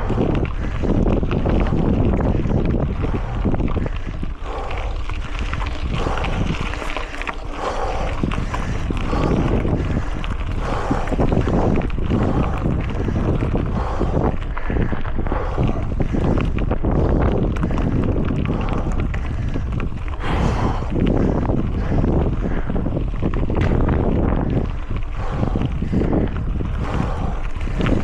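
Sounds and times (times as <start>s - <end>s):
bike clicks and knocks: 0.0s - 28.0s
wind buffeting microphone: 0.0s - 28.0s.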